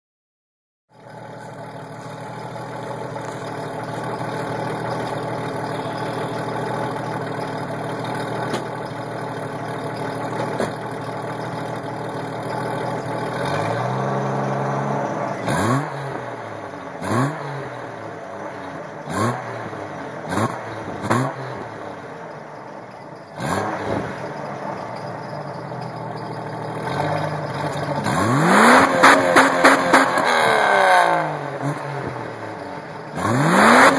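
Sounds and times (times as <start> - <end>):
car engine idling and revving: 0.9 - 33.9.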